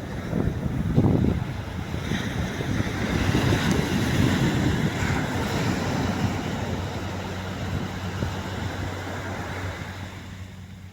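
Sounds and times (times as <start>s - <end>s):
surf washing on beach: 0.0s - 10.9s
wind buffeting microphone: 0.0s - 10.9s.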